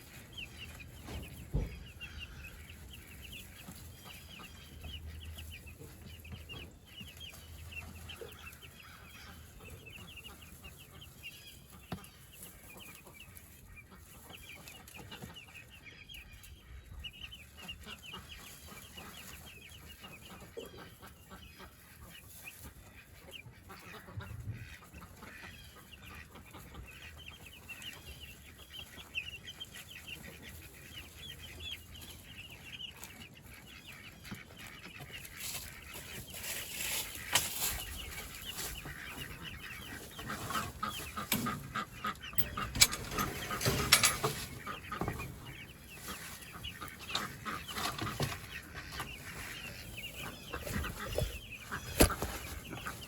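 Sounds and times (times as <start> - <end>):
chickens clucking and cheeping: 0.0 - 53.0.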